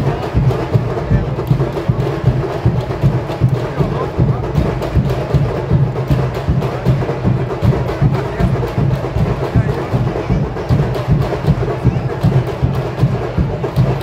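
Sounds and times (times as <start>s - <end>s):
bass drum beats: 0.0s - 14.0s
sharp clicking percussion: 0.0s - 14.0s
voices: 0.0s - 14.0s.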